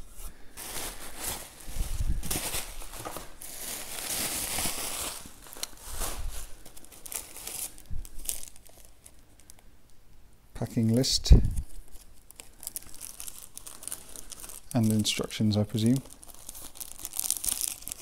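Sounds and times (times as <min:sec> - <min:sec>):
bubble wrap crinkling: 0:00.0 - 0:09.7, 0:11.5 - 0:18.0.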